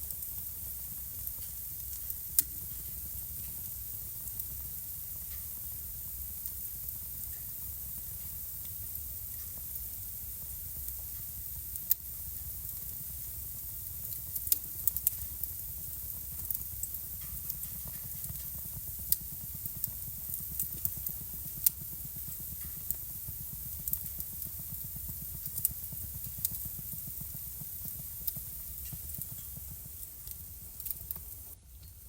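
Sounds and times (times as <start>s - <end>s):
flames rumbling and hissing: 0.0s - 31.7s
fire crackling and popping: 0.0s - 32.0s.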